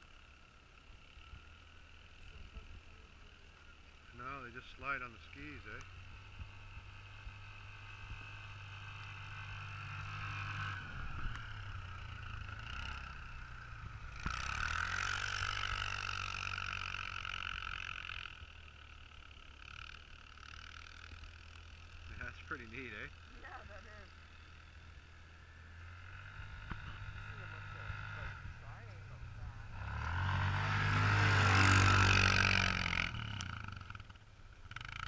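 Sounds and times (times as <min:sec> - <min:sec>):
tracked atv engine on snow: 0:00.0 - 0:35.0.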